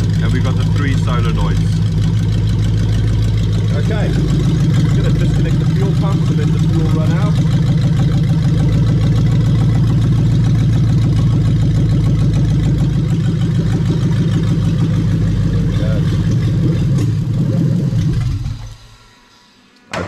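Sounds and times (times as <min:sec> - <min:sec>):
car engine idling: 0:00.0 - 0:19.4.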